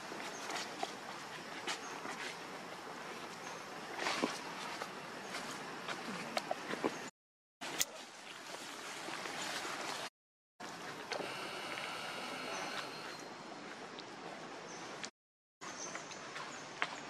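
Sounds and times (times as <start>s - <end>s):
outdoor background hiss: 0.0s - 10.0s, 10.6s - 15.1s.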